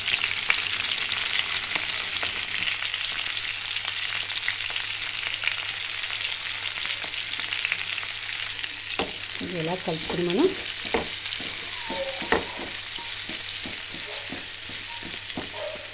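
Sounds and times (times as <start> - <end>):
vegetables sizzling in hot oil: 0.0 - 15.9.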